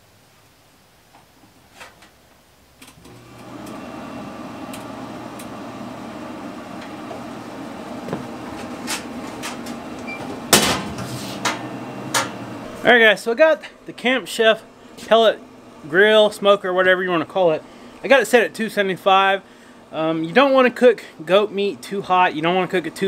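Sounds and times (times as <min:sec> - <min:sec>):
fan motor humming: 0:02.8 - 0:23.0.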